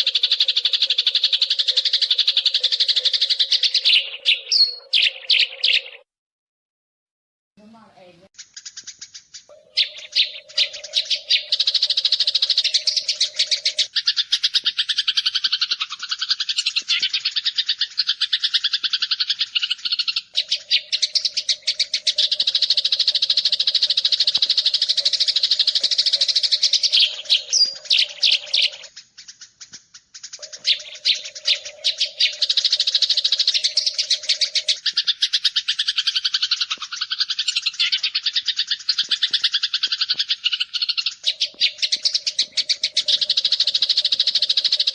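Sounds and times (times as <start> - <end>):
sparrow chirping: 0.0 - 6.0, 7.7 - 44.9.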